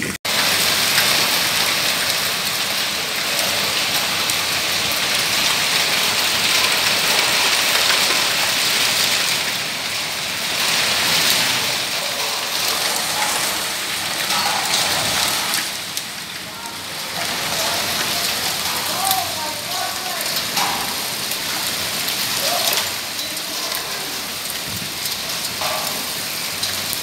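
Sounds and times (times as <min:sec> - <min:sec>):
hail and heavy rain on concrete: 0:00.0 - 0:27.0.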